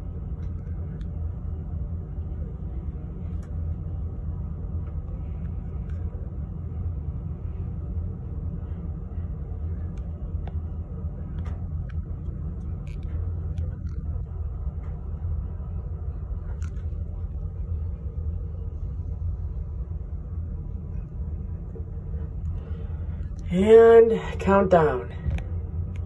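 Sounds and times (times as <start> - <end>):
low rumble of ship at sea: 0.0 - 26.0.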